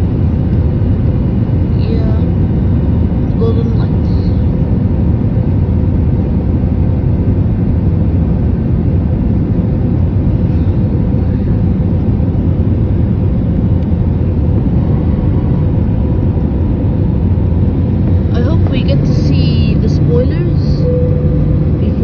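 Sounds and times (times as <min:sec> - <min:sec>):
airliner cabin roar: 0:00.0 - 0:22.0.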